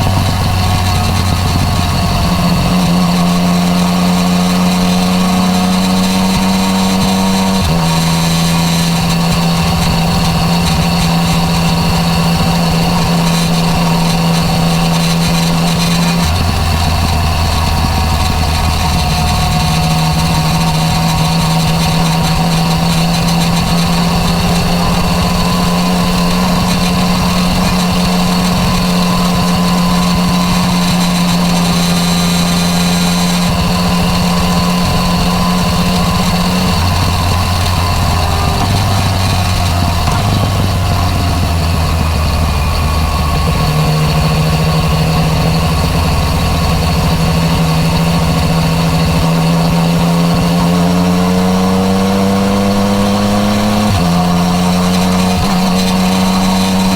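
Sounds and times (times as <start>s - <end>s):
motorcycle engine while riding: 0.0s - 56.9s.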